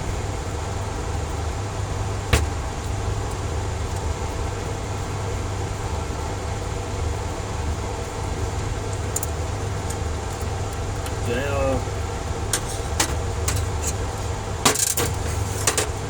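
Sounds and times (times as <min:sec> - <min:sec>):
blower fan humming: 0:00.0 - 0:16.0.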